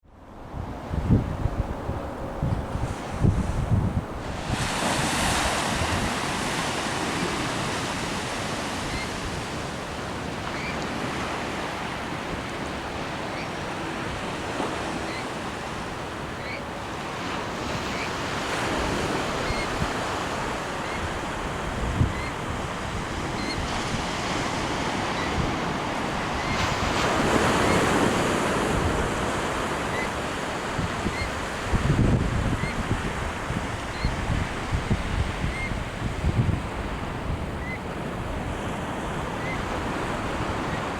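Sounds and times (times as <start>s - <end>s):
wind gusting over microphone: 0.0s - 40.9s
ocean surf breaking on beach: 0.2s - 40.9s.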